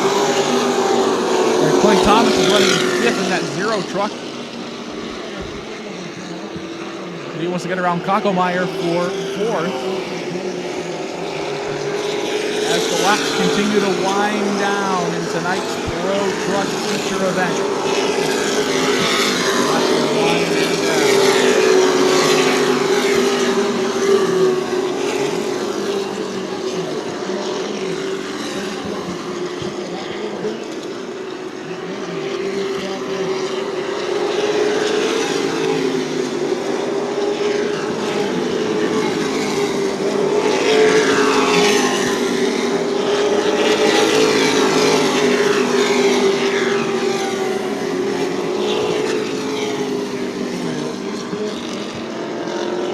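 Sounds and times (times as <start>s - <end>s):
race truck engines passing: 0.0s - 52.9s.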